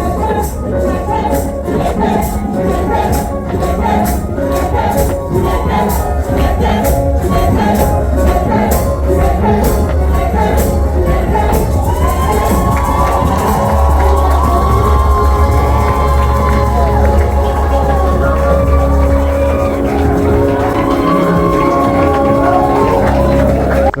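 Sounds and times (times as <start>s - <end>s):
background music with steady beat: 0.0s - 24.0s.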